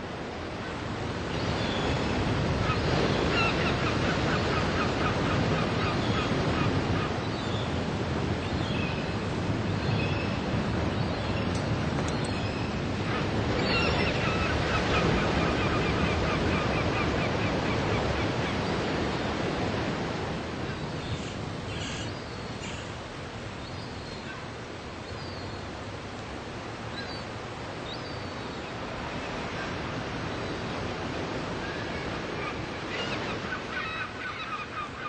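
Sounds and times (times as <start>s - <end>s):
ocean surf breaking on beach: 0.0s - 28.0s, 28.6s - 35.0s.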